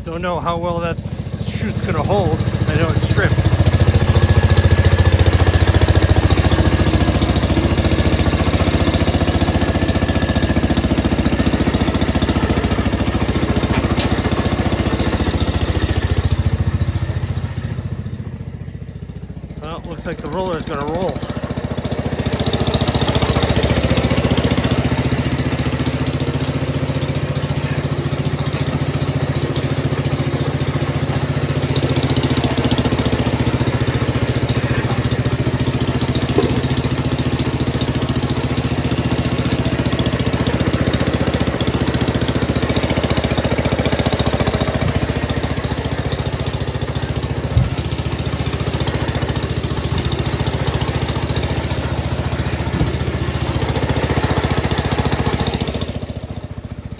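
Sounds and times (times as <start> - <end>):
tractor engine under load: 0.0 - 56.9.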